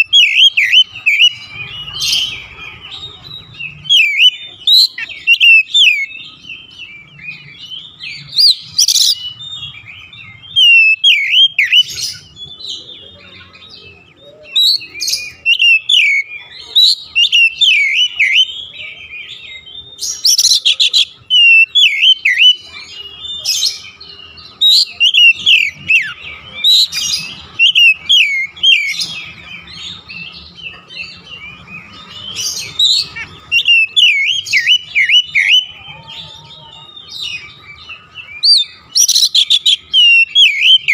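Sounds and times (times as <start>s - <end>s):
songbird whistling and chattering: 0.0s - 40.9s.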